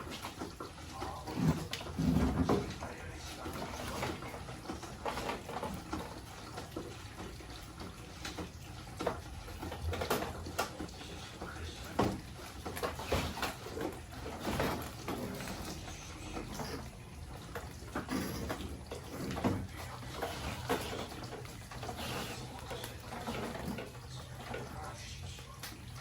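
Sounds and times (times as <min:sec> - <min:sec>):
water running: 0:00.0 - 0:26.0.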